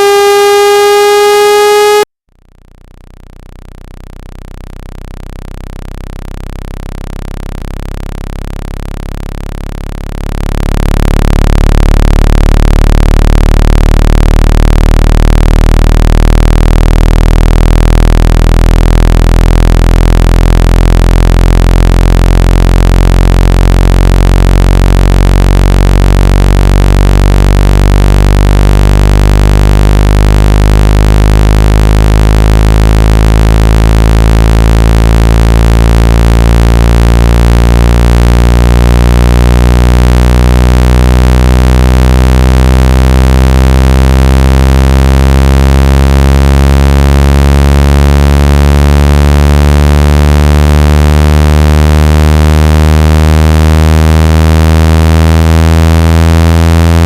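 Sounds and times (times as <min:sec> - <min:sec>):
synthesized low drone tones: 0:00.0 - 0:57.0.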